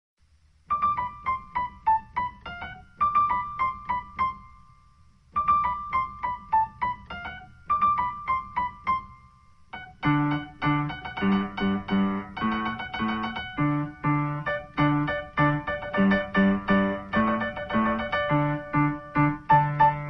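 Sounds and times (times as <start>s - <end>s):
light keyboard melody: 0.7s - 20.0s.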